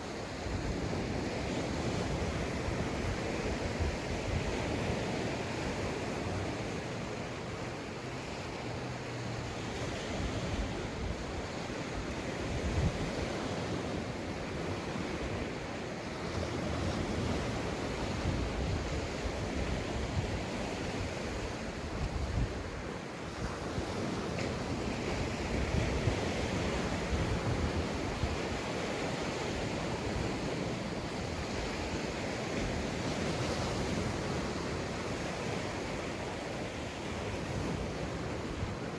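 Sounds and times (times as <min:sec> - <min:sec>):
sea waves breaking on beach: 0:00.0 - 0:38.9
wind rumbling on microphone: 0:00.0 - 0:38.9.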